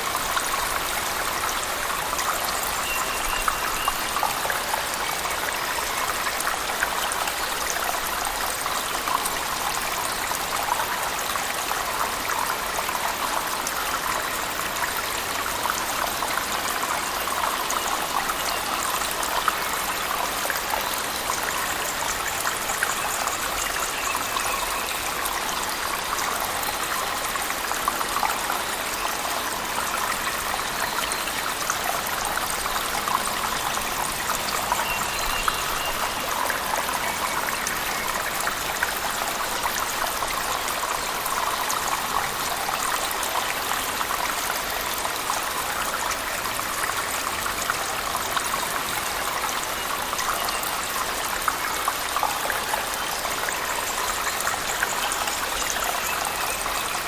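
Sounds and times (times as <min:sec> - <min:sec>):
water drips and splashes: 0:00.0 - 0:57.0.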